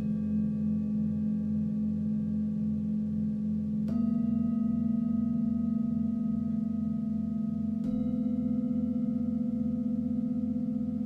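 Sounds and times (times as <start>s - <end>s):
singing bowl struck: 0.0s - 11.0s
singing bowls ringing: 0.0s - 11.0s.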